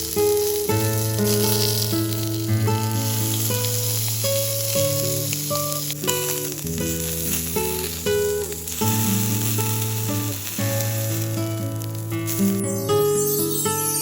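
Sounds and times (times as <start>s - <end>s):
food sizzling in frying: 0.0s - 14.0s
plucked background music: 0.0s - 14.0s.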